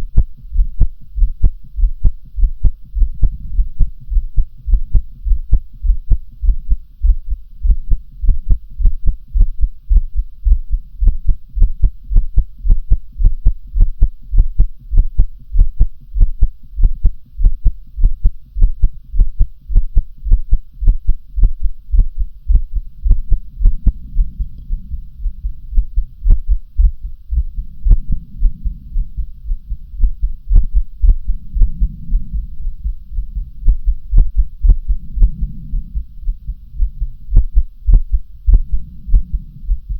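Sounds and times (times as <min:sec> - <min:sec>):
amplified heartbeat thumping: 0:00.0 - 0:39.9
soft low whooshing: 0:00.0 - 0:39.9.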